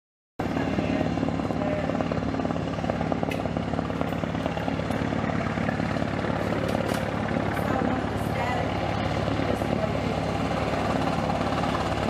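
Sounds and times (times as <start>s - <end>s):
helicopter rotor chopping: 0.4s - 12.0s.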